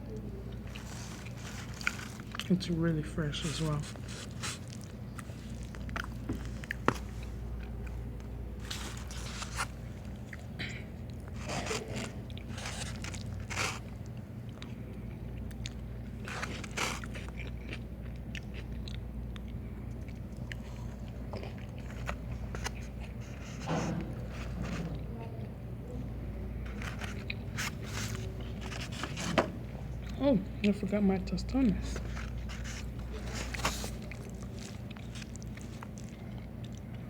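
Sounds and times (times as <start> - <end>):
steady low hum: 0.0 - 37.0
person chewing and crunching food: 0.1 - 2.7, 3.3 - 25.5, 26.5 - 30.2, 31.8 - 37.0.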